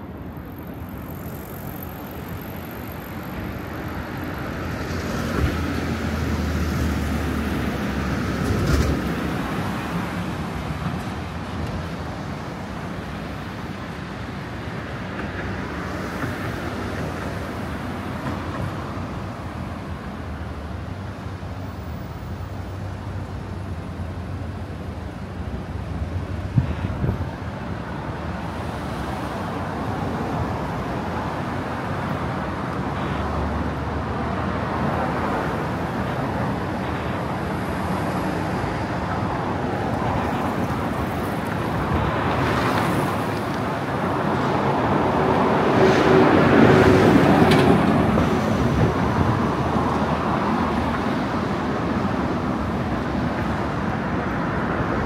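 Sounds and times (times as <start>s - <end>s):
passing cars: 0.0s - 55.0s.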